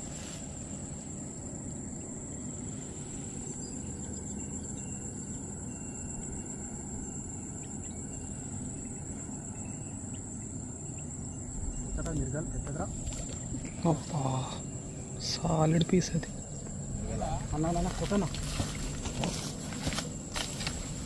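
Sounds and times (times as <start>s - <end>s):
high-pitched insect call: 0.0s - 21.0s
low steady rumble: 0.0s - 21.0s.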